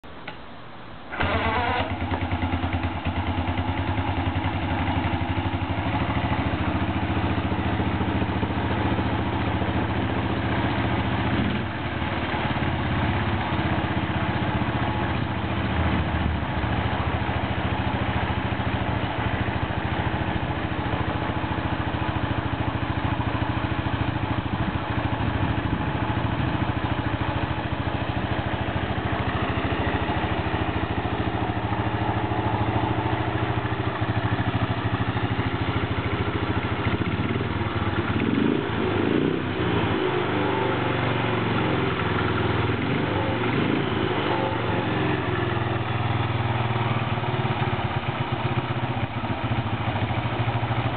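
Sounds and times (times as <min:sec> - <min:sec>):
motorcycle engine idling: 0:01.1 - 0:50.9.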